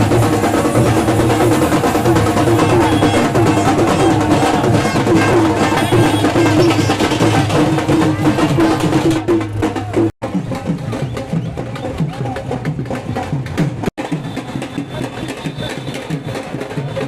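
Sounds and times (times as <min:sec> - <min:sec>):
drums beating fast rhythm: 0:00.0 - 0:17.0.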